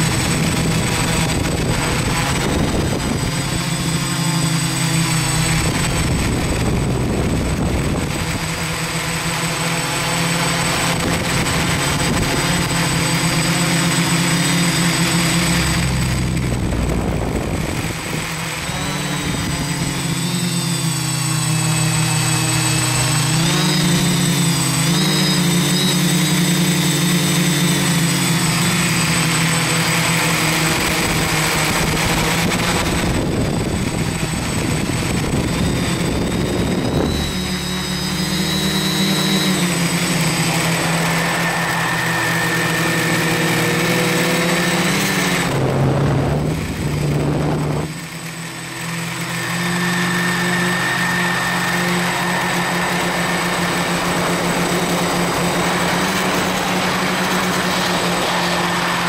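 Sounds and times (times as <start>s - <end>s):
high whine: 0.0s - 59.0s
quadcopter motors buzzing: 0.0s - 59.0s.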